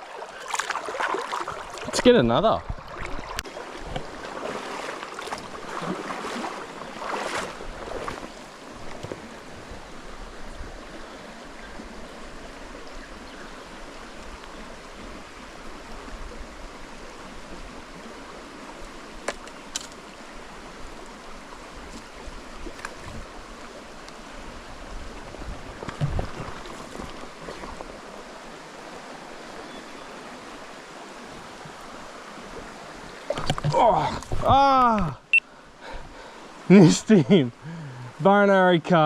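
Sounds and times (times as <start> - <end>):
river running over stones: 0.0 - 39.0.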